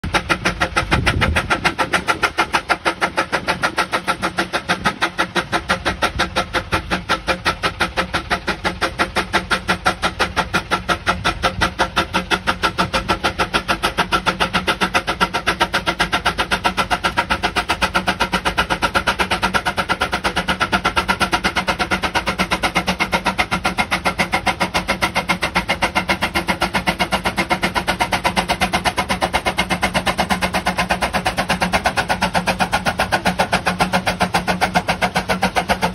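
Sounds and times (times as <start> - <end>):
steam engine exhaust chuffing: 0.0 - 35.9.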